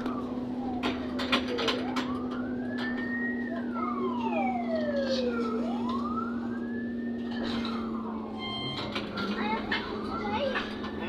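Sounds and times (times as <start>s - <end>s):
ambulance siren wailing: 0.0s - 11.0s.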